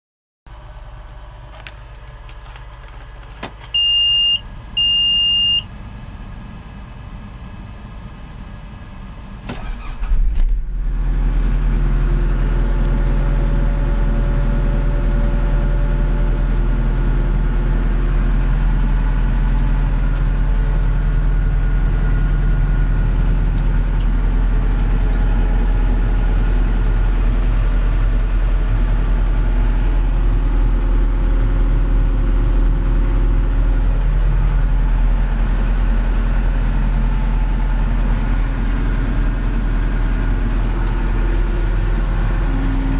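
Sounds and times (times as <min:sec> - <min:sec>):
diesel engine cranking and starting: 0:00.5 - 0:42.9
diesel engine idling: 0:00.5 - 0:42.9.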